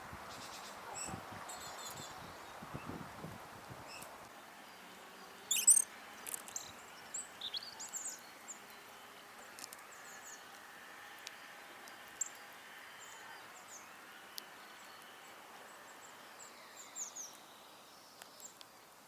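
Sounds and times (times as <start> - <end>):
outdoor background hiss: 0.0 - 19.0
songbirds chirping: 0.2 - 2.9, 3.9 - 19.0.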